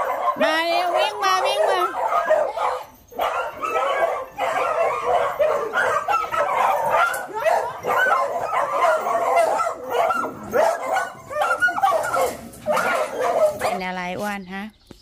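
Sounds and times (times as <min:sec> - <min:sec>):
dogs barking and yipping: 0:00.0 - 0:14.3.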